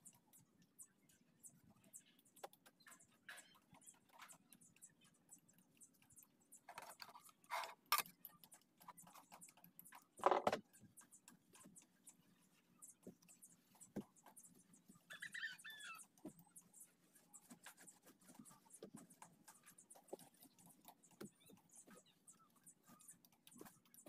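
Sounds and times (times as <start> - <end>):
light clicks and scratches: 0.0 - 24.0.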